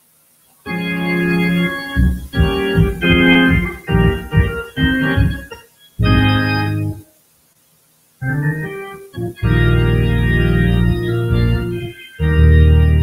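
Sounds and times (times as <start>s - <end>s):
organ playing held chords: 0.6s - 7.1s, 8.2s - 13.0s.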